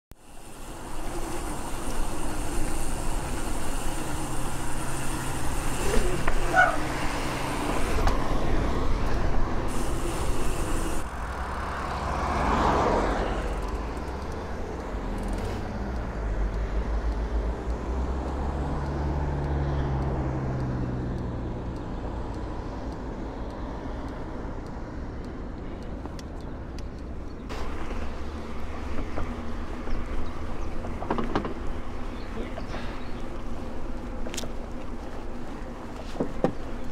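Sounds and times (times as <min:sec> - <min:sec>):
steady engine hum: 0:00.1 - 0:36.9
cars driving past: 0:00.2 - 0:36.9.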